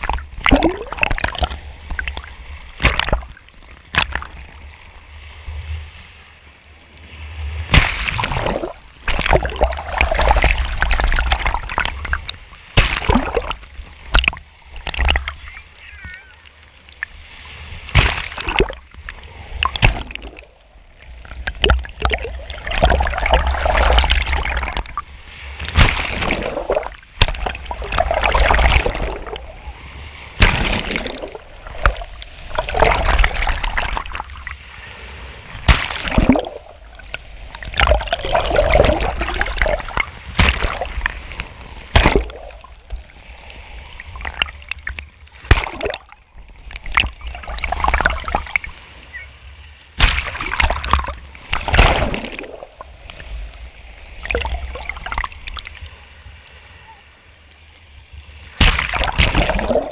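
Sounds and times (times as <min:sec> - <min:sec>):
sharp splashes: 0:00.0 - 0:04.5, 0:07.4 - 0:16.3, 0:16.9 - 0:49.0, 0:50.0 - 0:55.8, 0:58.5 - 0:59.9
surf splashing and gurgling: 0:00.0 - 0:59.9.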